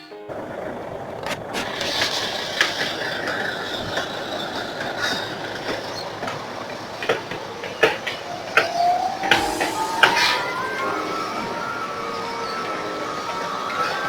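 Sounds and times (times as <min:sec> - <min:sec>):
steady rush of street noise: 0:00.3 - 0:14.0.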